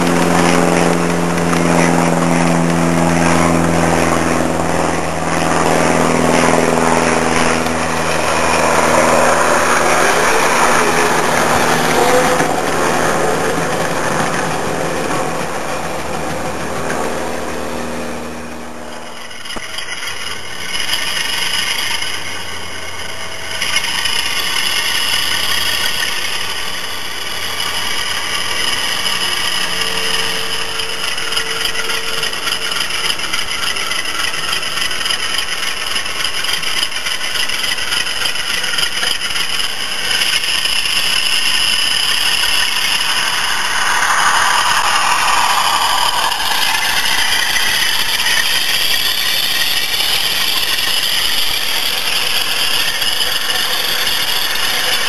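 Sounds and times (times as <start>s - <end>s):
model diesel engine running: 0.0s - 55.0s
model train wheels rattling on rails: 5.6s - 17.5s, 18.9s - 55.0s.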